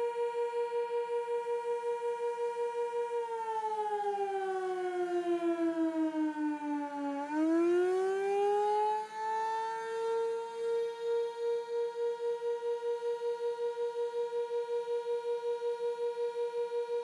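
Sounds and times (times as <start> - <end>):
wailing warning siren: 0.0 - 15.2.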